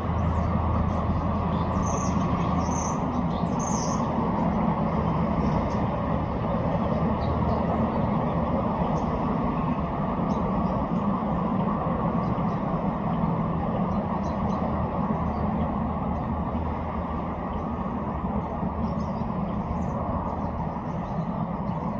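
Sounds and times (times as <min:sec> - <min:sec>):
low rumbling noise: 0:00.0 - 0:21.9.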